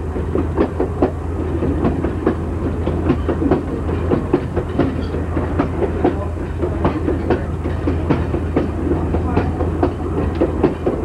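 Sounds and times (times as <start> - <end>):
low train rumble: 0.0 - 11.0
train wheels clicking on track: 0.0 - 11.0.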